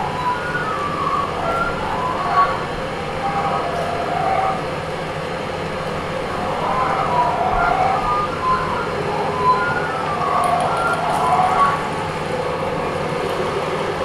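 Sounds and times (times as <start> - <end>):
wavering gliding tones: 0.0 - 14.0.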